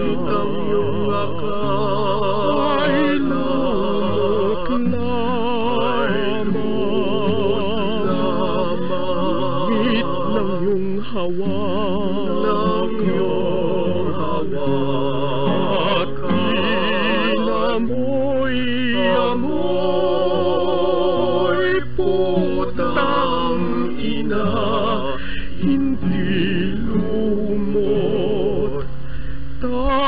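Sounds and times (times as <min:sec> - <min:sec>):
acoustic guitar: 0:00.0 - 0:30.0
man singing with vibrato: 0:00.0 - 0:30.0.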